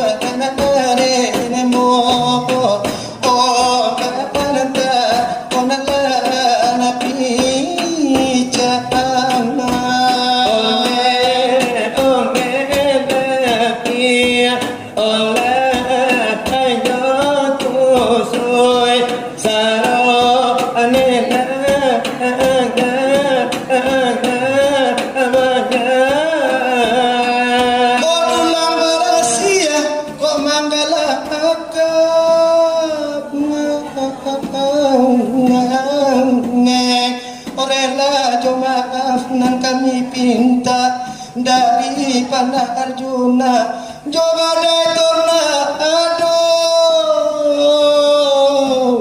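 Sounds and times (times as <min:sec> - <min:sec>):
voices singing devotional melody: 0:00.0 - 0:49.0.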